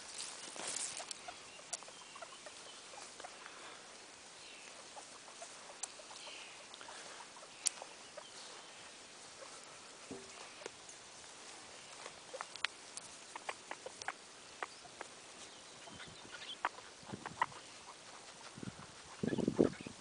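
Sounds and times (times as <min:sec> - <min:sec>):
guinea pigs chewing grass: 0:00.0 - 0:03.9, 0:04.6 - 0:08.6, 0:09.2 - 0:19.8
grass rustling: 0:00.0 - 0:20.0.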